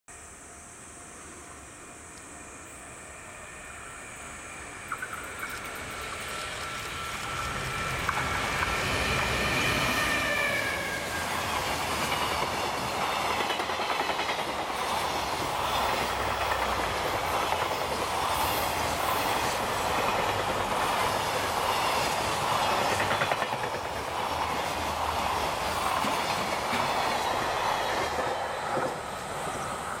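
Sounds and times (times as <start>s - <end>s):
electric locomotive whine passing: 0.1s - 30.0s
train wagons rumbling over rails: 4.8s - 30.0s.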